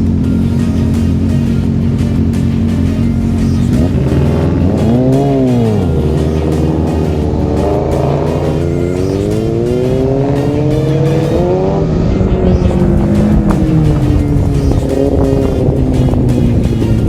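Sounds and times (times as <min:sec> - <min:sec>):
motorcycle engine accelerating: 0:00.0 - 0:17.0
wind and road noise: 0:00.0 - 0:17.0.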